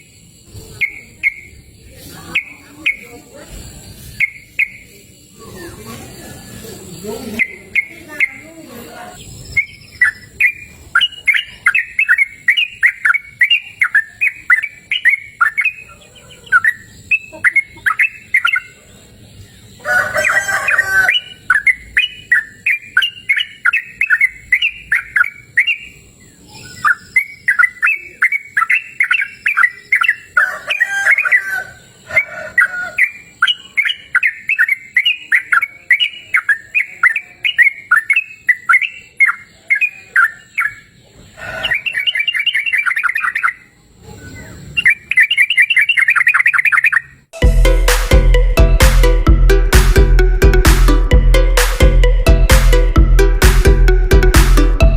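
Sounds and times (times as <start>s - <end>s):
harsh bird call: 0.0s - 18.9s, 19.7s - 47.3s
bulbul rapid chirping song: 0.0s - 54.9s.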